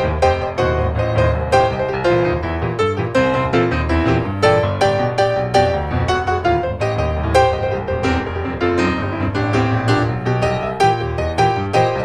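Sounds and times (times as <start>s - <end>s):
piano melody over bass line: 0.0s - 12.0s.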